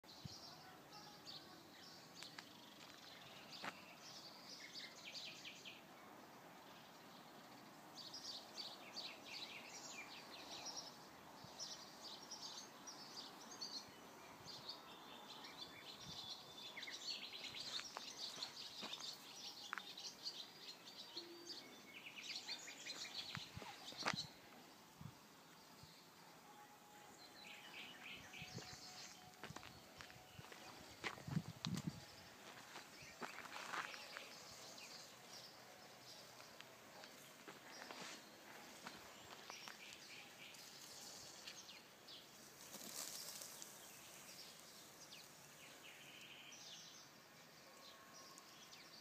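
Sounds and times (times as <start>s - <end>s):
small birds chirping trills: 0.0s - 49.0s.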